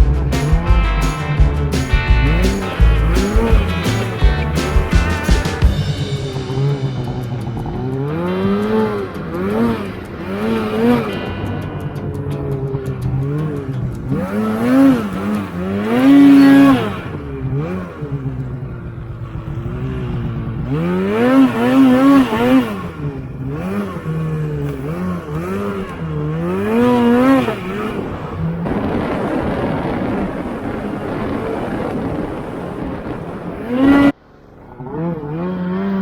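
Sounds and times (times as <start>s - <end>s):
snowmobile engine revving: 0.0s - 36.0s.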